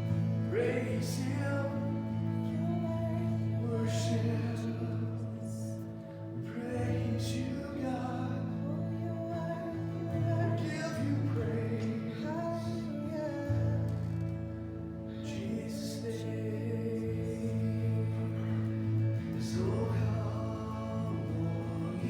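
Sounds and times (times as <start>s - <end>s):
person singing slow melody: 0.0s - 22.0s
sustained chords: 0.0s - 22.0s.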